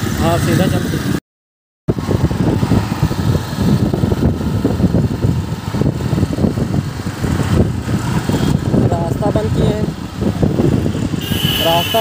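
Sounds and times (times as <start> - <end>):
road traffic: 0.0 - 1.2, 1.9 - 12.0
motorbike engine: 1.9 - 12.0
wind rumbling on microphone: 1.9 - 12.0.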